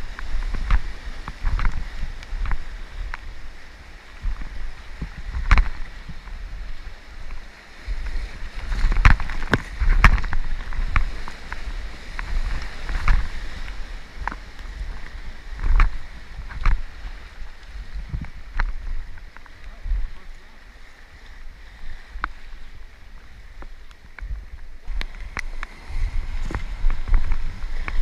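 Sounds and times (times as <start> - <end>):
moving water rumble: 0.0 - 28.0
paddle splashing in water: 0.0 - 28.0
wind: 0.0 - 28.0.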